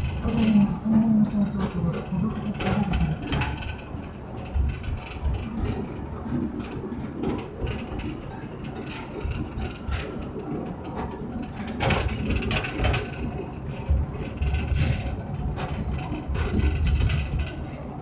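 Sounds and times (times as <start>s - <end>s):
low train rumble: 0.0s - 18.0s
train cars rattling over rails: 0.0s - 18.0s.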